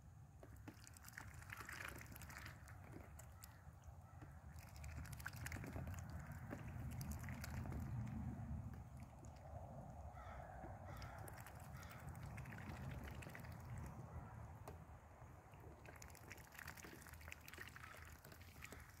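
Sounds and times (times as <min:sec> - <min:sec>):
ducks dabbling in water: 0:00.3 - 0:19.0
small water splashes: 0:00.4 - 0:19.0.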